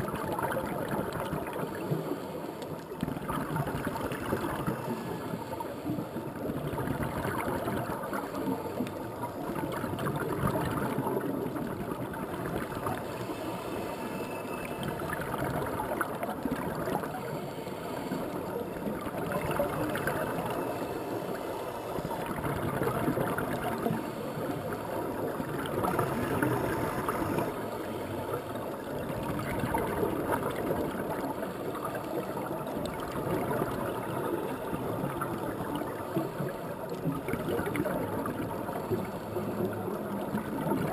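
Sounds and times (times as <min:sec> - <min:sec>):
underwater regulator bubbles: 0:00.0 - 0:40.9.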